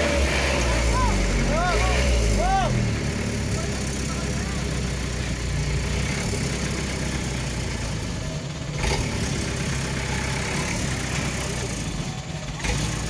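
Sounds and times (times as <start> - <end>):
truck engine running: 0.0 - 13.0
truck jolt: 0.0 - 13.0.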